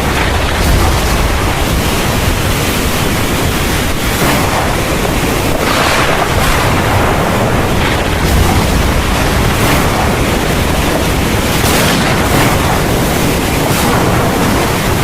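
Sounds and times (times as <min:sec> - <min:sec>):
deep rumble of thunder: 0:00.0 - 0:15.0
rain pouring: 0:00.0 - 0:15.0
rushing noise: 0:00.0 - 0:15.0.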